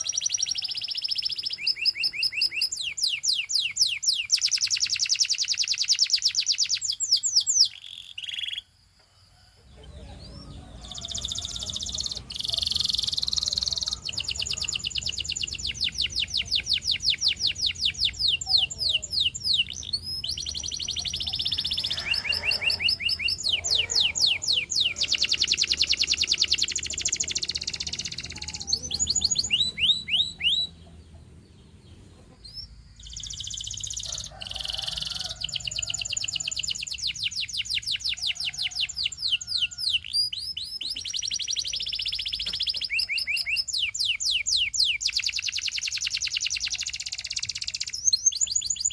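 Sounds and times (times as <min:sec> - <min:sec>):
canary singing trills: 0:00.0 - 0:08.8, 0:09.4 - 0:48.9.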